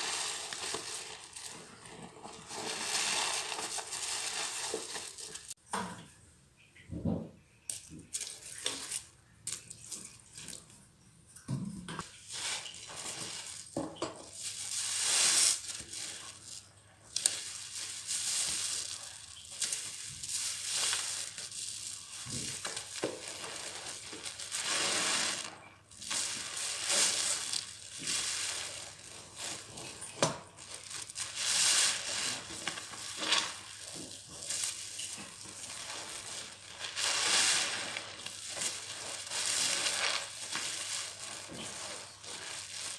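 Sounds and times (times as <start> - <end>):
wet sponges squelching: 0.0 - 5.6, 12.0 - 42.9.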